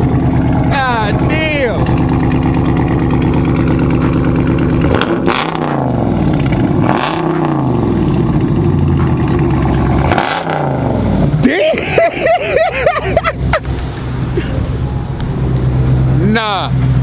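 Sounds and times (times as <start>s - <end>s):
car engine revving: 0.0s - 17.0s
exhaust crackles: 0.0s - 17.0s.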